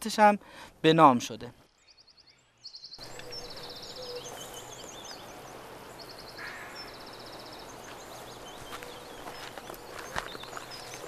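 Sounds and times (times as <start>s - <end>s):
steady background hiss: 0.0s - 11.0s
birds chirping: 0.9s - 11.0s.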